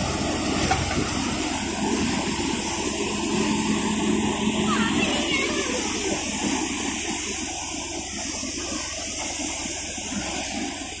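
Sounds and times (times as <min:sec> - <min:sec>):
thresher drum whirring: 0:00.0 - 0:11.0.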